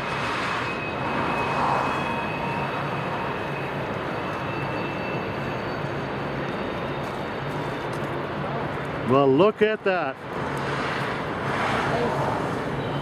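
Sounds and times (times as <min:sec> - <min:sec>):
diesel locomotives humming: 0:00.0 - 0:13.0.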